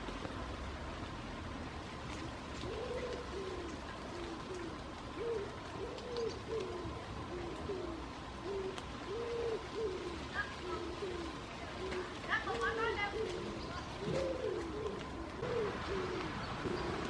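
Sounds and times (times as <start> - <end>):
pigeons cooing: 2.2 - 17.0.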